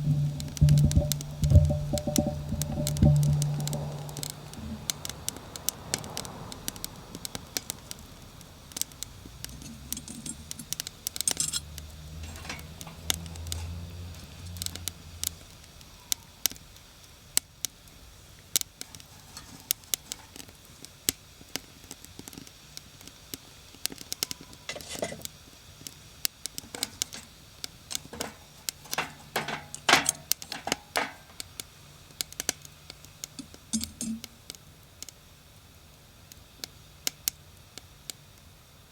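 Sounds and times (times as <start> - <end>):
wood fire crackling: 0.0 - 38.2.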